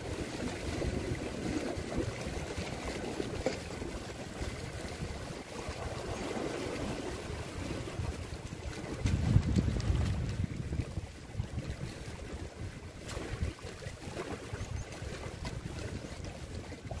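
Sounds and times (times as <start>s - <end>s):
waves washing over rocky shore: 0.0s - 14.6s
wind rumble on microphone: 0.0s - 17.0s.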